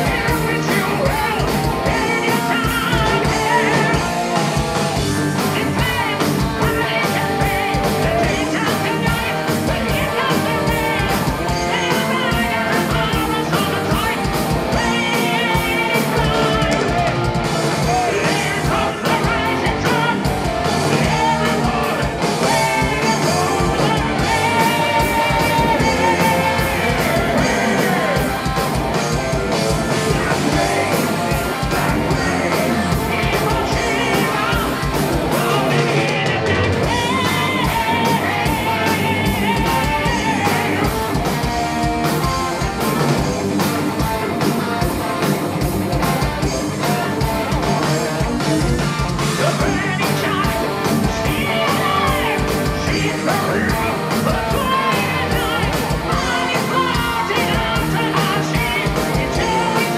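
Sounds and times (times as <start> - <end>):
man singing: 0.0 - 41.5, 46.4 - 59.9
electric guitars: 0.0 - 59.9
rapid drums and cymbals: 0.0 - 59.9.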